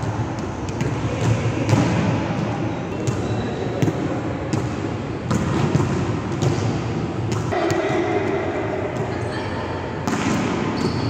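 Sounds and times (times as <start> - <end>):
volleyball hits and thuds: 0.0 - 9.1, 10.0 - 11.0.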